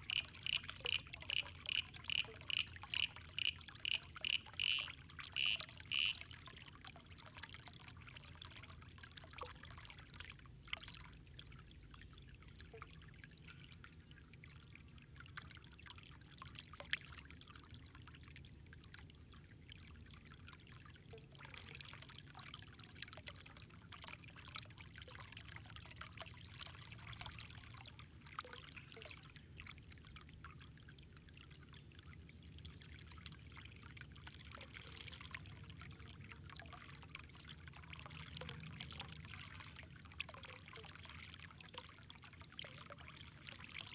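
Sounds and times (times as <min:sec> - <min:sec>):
water trickling: 0:00.0 - 0:43.9.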